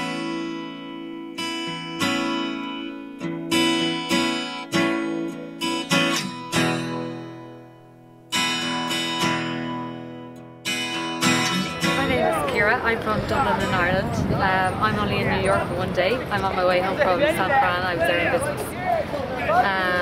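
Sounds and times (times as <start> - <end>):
acoustic guitar strummed chords: 0.0 - 18.4.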